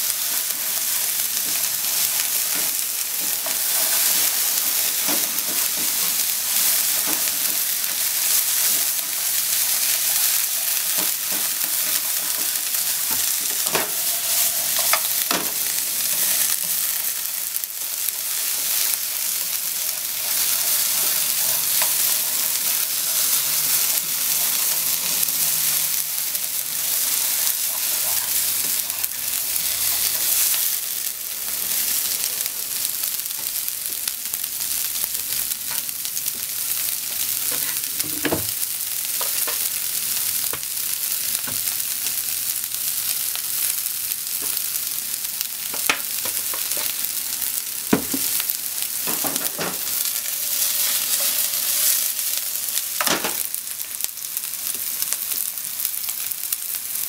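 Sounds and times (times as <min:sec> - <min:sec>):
onions sizzling in frying pan: 0:00.0 - 0:57.0.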